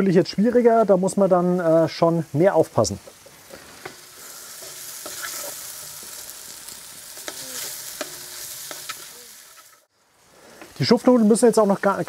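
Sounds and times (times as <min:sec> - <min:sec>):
food sizzling in a pot: 0:00.5 - 0:12.0.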